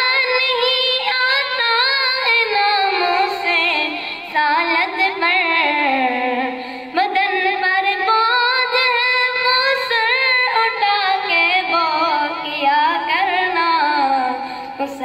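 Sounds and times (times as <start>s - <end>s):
boy singing unaccompanied: 0.0s - 15.0s.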